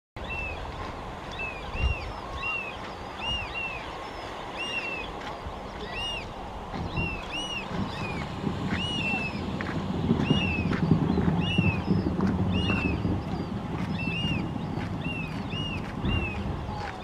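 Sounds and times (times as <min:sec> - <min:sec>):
oystercatchers piping: 0:00.2 - 0:17.0
water rushing: 0:00.2 - 0:17.0.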